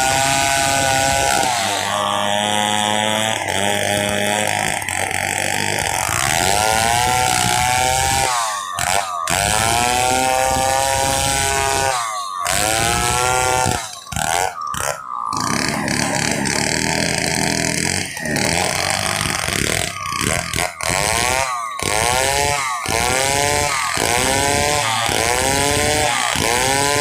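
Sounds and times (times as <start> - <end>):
chainsaw sawing a log: 0.0 - 27.0.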